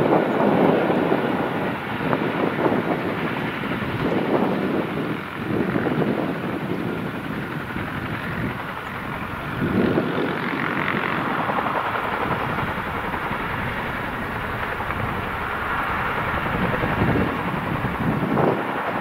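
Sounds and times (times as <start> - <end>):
helicopter rotors and engines roaring: 0.0 - 19.0.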